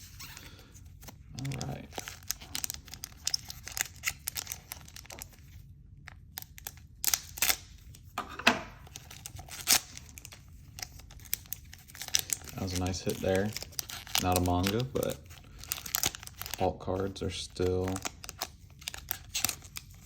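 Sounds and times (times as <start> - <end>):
plastic packaging rustling: 0.0 - 20.0.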